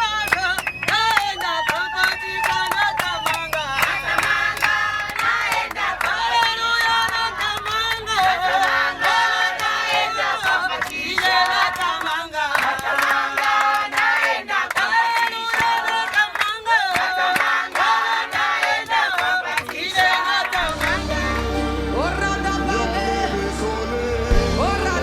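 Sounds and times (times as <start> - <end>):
hand clapping: 0.0 - 21.1
group singing in chorus: 0.0 - 25.0.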